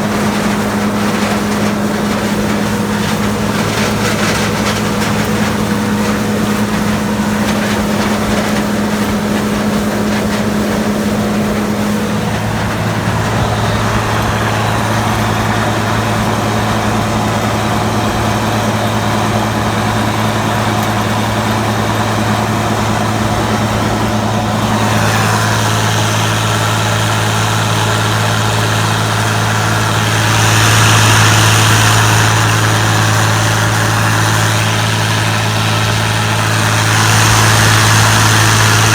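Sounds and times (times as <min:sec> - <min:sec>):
large engine humming: 0:00.0 - 0:38.9.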